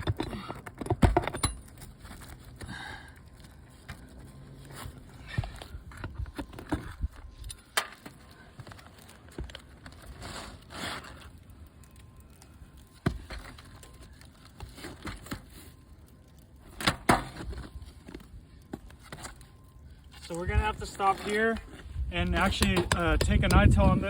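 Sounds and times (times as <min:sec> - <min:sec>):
shingles scraping and crackling: 0:00.0 - 0:24.0.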